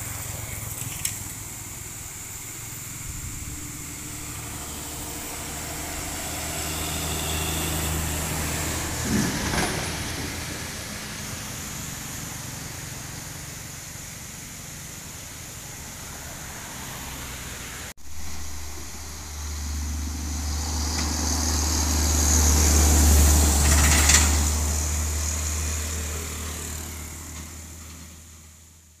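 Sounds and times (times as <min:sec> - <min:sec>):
tanker truck passing: 0:00.0 - 0:28.8
truck engine and tyre noise: 0:00.0 - 0:29.0.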